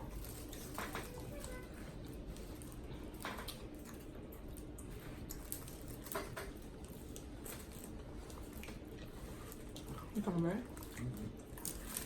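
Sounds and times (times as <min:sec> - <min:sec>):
wet mouth chewing noises: 0:01.9 - 0:12.0.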